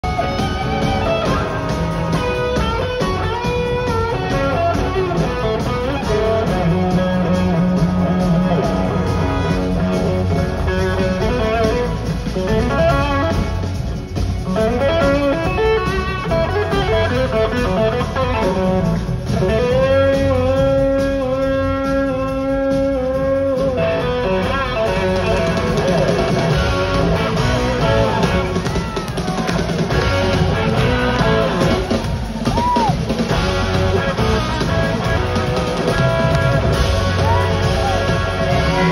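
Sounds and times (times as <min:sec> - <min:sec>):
live blues-rock band: 0:00.0 - 0:38.9
slide electric guitar: 0:00.0 - 0:38.9.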